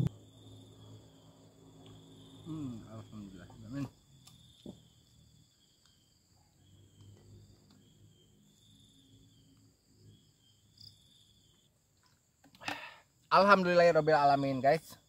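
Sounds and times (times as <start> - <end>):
faint insects chirping: 0.0 - 15.0.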